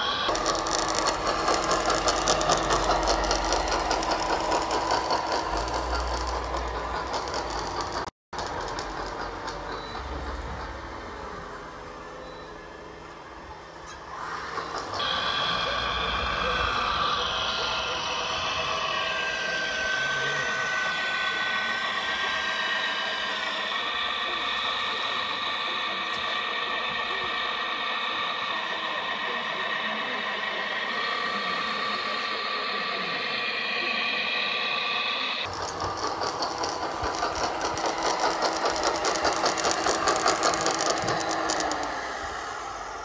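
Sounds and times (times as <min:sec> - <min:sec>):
hydraulic pump whining: 0:00.0 - 0:12.0, 0:13.8 - 0:43.0
metallic rattle of tracks and gears: 0:00.0 - 0:42.3.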